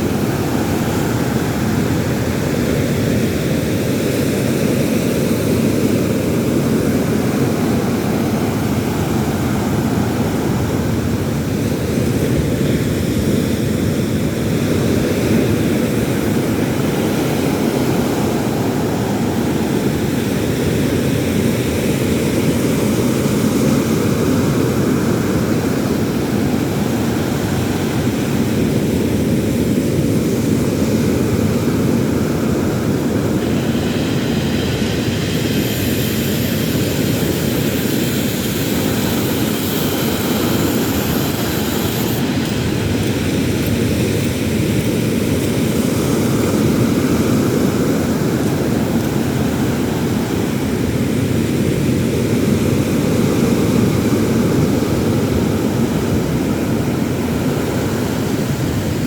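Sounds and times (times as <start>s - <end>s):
low roar of sea surf: 0.0s - 59.0s.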